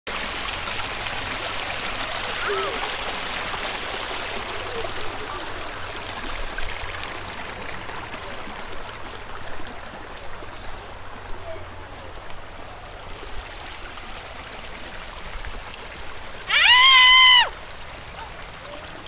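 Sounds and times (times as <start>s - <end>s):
flowing water: 0.1s - 19.0s.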